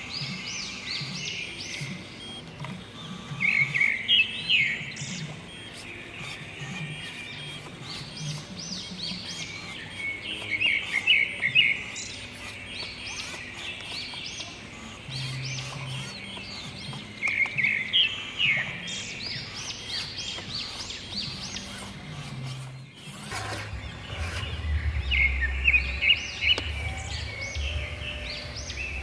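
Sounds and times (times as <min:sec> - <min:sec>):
birds chirping: 0:00.0 - 0:29.0
faint low hum: 0:00.0 - 0:29.0.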